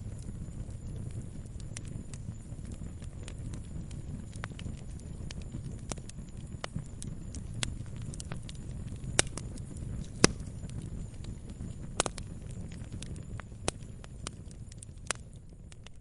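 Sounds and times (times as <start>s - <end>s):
fire popping and crackling: 0.0s - 16.0s
low rumble of flames: 0.0s - 16.0s.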